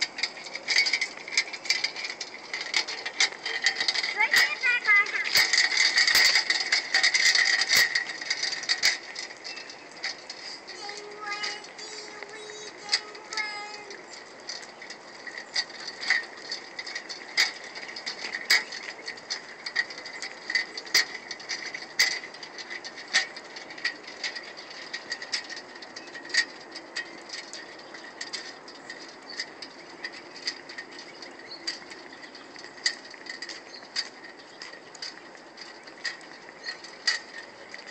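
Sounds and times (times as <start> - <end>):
metal tricycle rattling: 0.0 - 37.9.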